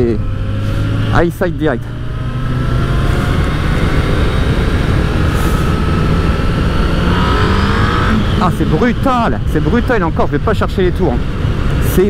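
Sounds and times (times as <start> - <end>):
motorcycle engine accelerating: 0.0 - 12.0
loud wind rush: 1.9 - 12.0.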